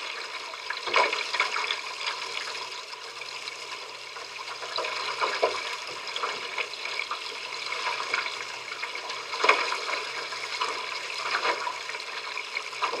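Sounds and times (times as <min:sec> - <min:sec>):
water rushing along a hull: 0:00.0 - 0:13.0.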